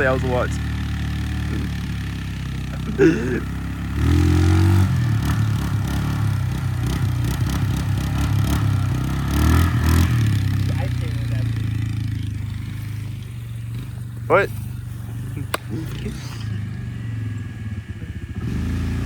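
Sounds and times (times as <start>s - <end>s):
engine idling and revving: 0.0s - 19.0s.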